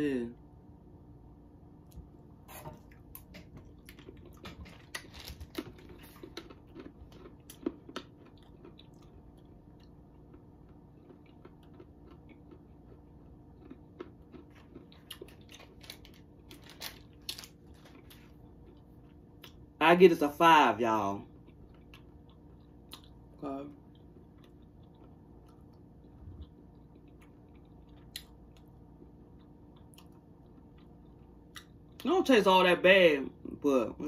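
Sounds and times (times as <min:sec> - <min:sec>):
person chewing crunchy peanuts: 0:01.9 - 0:19.8, 0:21.2 - 0:32.1.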